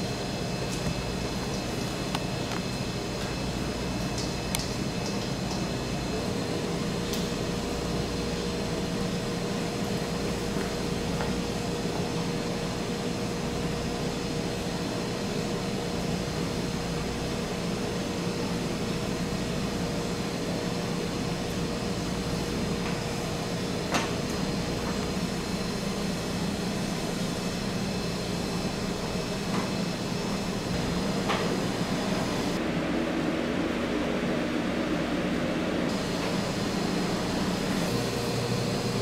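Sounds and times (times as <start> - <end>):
machine hum with faint whine: 0.0 - 39.0.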